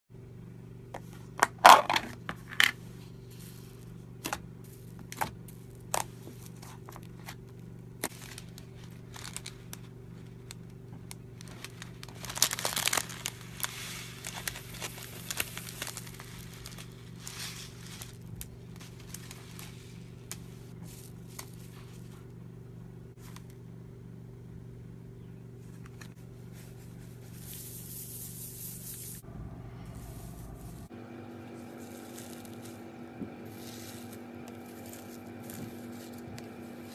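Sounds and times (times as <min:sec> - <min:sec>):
steady low hum: 0:00.1 - 0:36.9.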